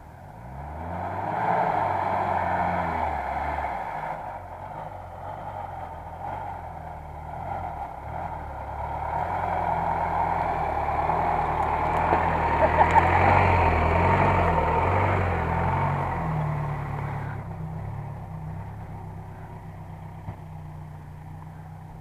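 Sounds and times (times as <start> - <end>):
car engine running under load: 0.0 - 22.0.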